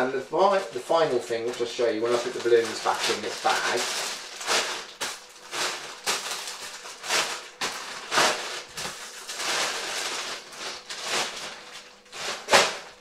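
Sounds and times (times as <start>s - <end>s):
plastic bag rustling and crinkling: 1.1s - 13.0s.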